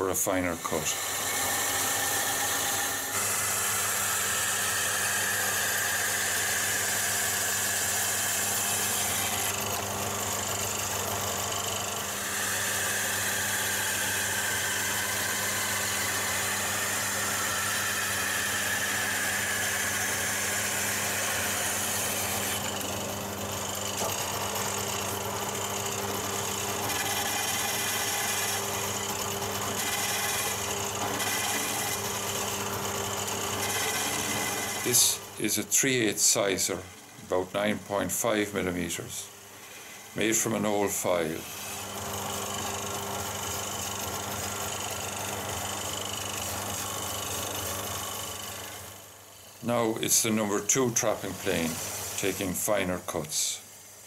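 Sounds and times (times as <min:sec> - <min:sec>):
plane shaving spinning wood: 0:00.0 - 0:53.5
lathe motor hum: 0:00.3 - 0:38.8, 0:39.4 - 0:53.3
metal tool cutting wood: 0:00.3 - 0:39.0, 0:39.7 - 0:49.0, 0:49.7 - 0:53.4.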